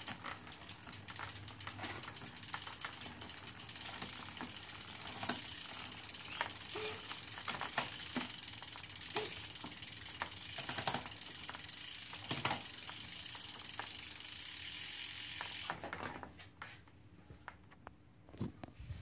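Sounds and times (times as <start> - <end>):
bicycle chain whirring: 0.0 - 15.8.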